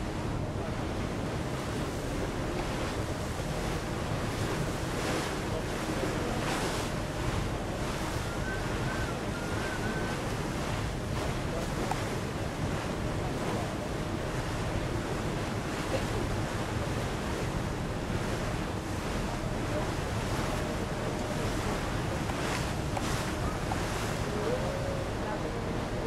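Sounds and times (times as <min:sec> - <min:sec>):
choppy water: 0:00.0 - 0:26.0
wind buffeting microphone: 0:00.0 - 0:26.0.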